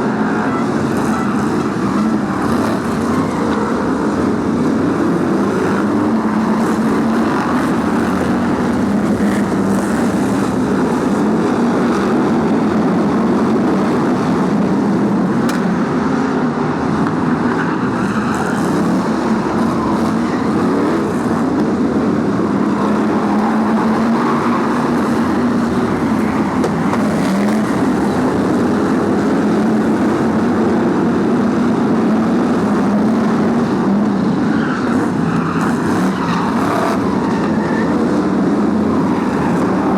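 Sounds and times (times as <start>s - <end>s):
racing car engines droning: 0.0s - 39.9s.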